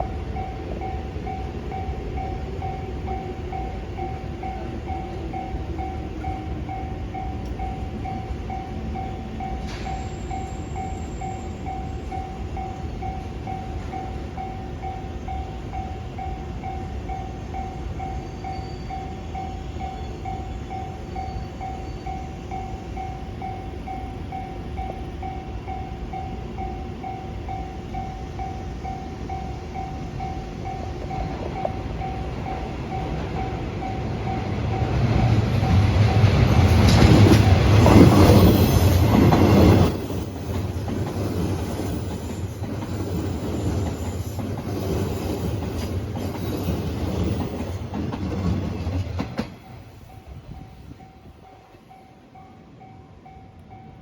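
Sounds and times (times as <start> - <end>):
train wheels clattering on rails: 0.0 - 52.1.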